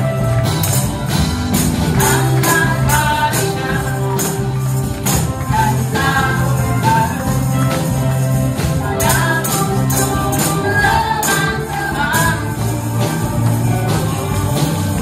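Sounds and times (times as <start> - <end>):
tambourines shaken in rhythm: 0.0 - 15.0
upbeat worship music: 0.0 - 15.0
people singing: 1.9 - 15.0.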